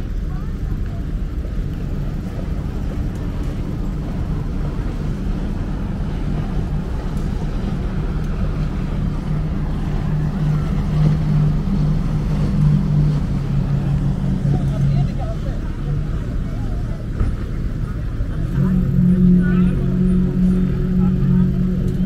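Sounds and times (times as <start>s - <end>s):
motorboat engine humming: 0.0s - 22.0s.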